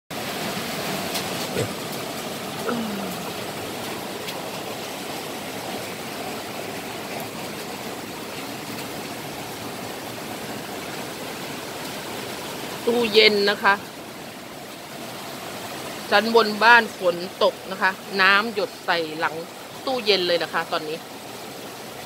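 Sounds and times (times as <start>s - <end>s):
rain on a metal roof: 0.1s - 22.0s.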